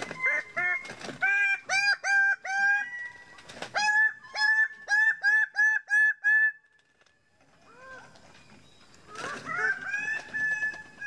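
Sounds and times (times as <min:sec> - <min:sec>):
bird display calls: 0:00.0 - 0:05.6, 0:07.6 - 0:11.0.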